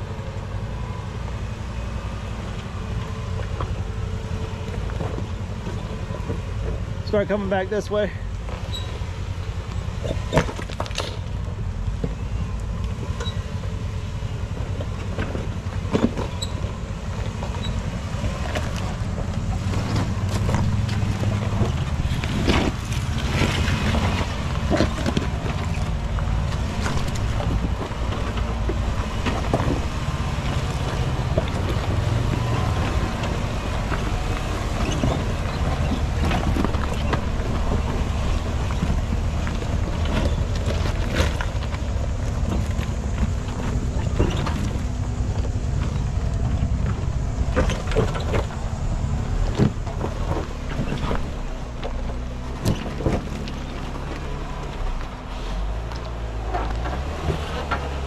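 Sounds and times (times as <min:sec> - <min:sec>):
engine running at low revs: 0:00.0 - 0:58.0
tyres crunching over loose rock: 0:10.0 - 0:13.5, 0:14.4 - 0:58.0.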